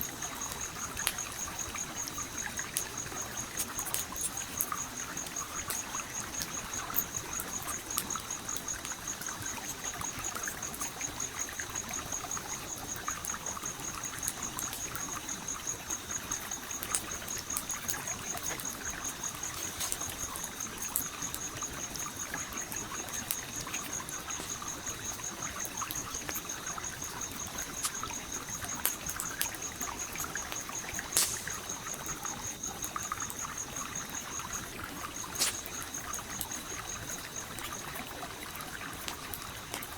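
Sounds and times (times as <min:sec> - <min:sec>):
campfire crackling and popping: 0:00.0 - 0:39.9
high insect trill: 0:00.0 - 0:39.9
stream trickling: 0:00.0 - 0:39.9.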